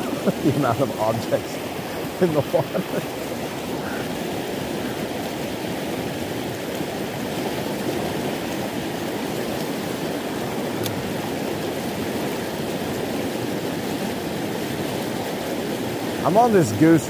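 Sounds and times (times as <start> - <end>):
water pouring over spillway: 0.0 - 17.0.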